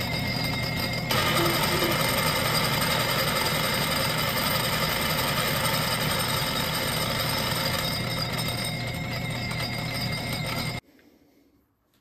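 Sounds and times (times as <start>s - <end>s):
lathe running with whining drive: 0.0s - 10.8s.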